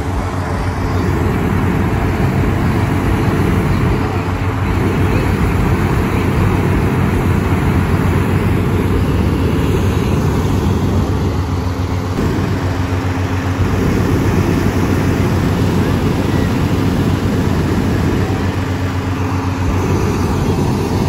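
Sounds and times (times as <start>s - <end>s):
inflator fan running: 0.0s - 21.0s.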